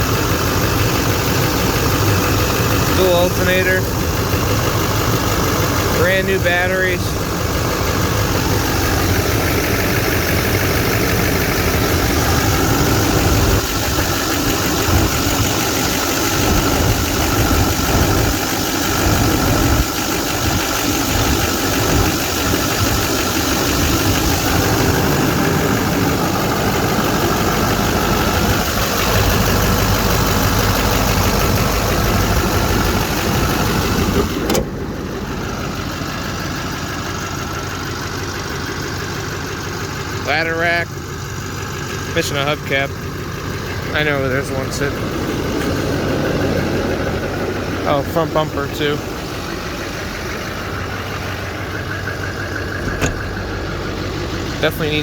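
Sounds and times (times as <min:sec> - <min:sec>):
diesel engine idling with clatter: 0:00.0 - 0:55.0.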